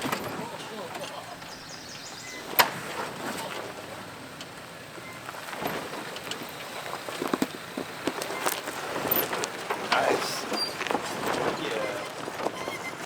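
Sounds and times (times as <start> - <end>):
truck tyres rumbling on rocky trail: 0.0 - 13.0.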